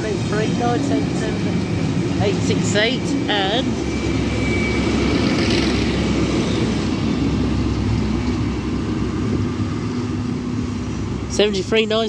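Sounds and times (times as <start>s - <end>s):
locomotive engine drone: 0.0s - 12.0s
train coaches rumbling past: 0.0s - 12.0s.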